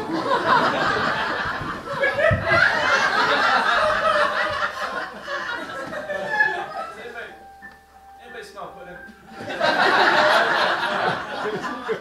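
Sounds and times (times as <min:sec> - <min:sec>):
audience laughing: 0:00.0 - 0:07.2, 0:09.3 - 0:12.0.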